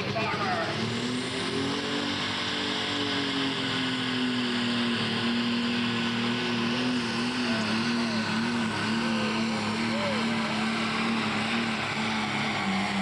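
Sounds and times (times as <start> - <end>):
tractor diesel engine roaring: 0.0 - 13.0.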